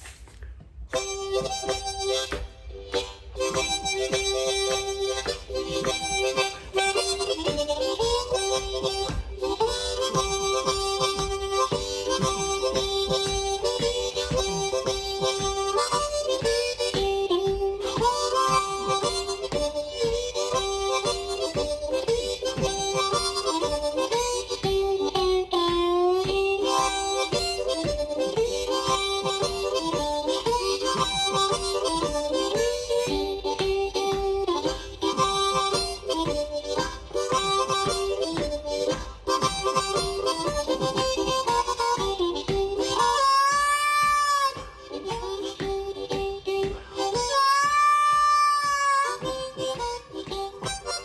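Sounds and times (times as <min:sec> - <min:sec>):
harmonica blues riff: 0:00.9 - 0:51.0.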